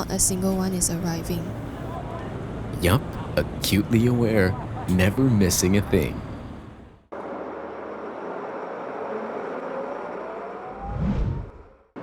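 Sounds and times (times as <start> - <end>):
bus driving past: 0.0 - 10.9.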